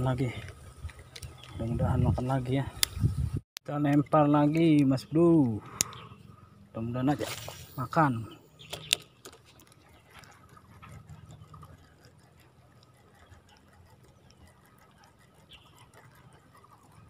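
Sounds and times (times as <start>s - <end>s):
fishing reel ticking: 0.0s - 3.0s, 3.7s - 17.0s.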